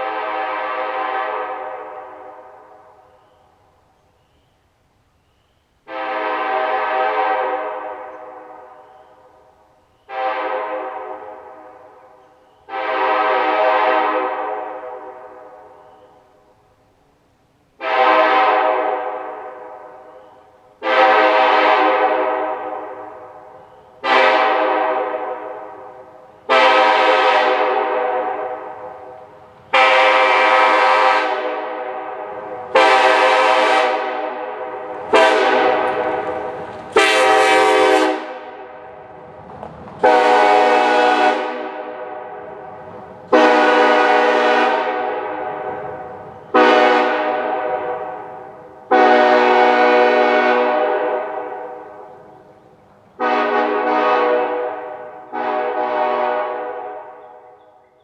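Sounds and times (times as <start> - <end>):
locomotive air horn blasts: 0.0 - 2.9, 5.8 - 8.9, 10.0 - 15.9, 17.8 - 20.2, 20.8 - 39.1, 40.0 - 52.5, 53.2 - 57.8.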